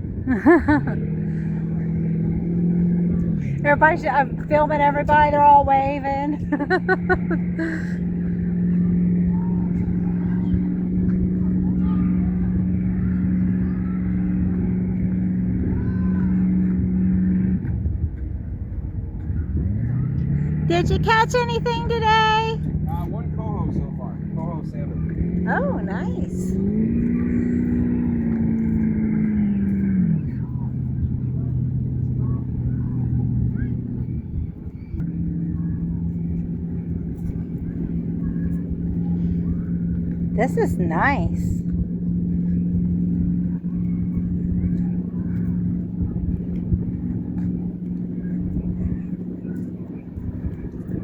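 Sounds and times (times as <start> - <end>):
motorboat engine droning: 0.0 - 51.0.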